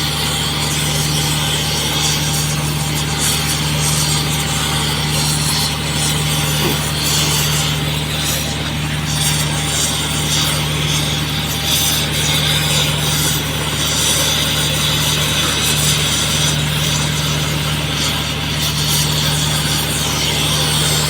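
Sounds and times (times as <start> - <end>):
low engine-like hum: 0.0 - 21.0
gas torch flame hissing: 0.7 - 21.0.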